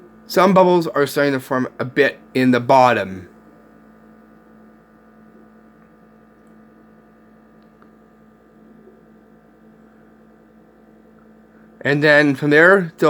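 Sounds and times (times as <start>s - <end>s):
faint stove hum: 0.0s - 13.0s.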